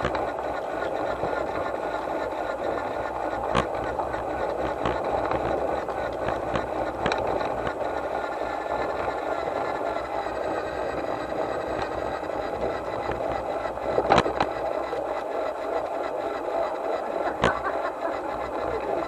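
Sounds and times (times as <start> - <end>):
model train running on rails: 0.0 - 19.0.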